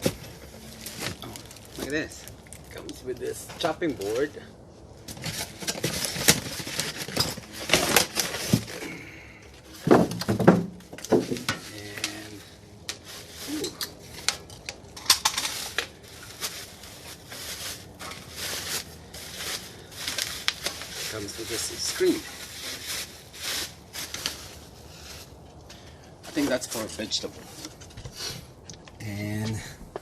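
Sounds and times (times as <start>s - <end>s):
packaging rustling and scraping: 0.0s - 4.4s, 5.0s - 28.6s.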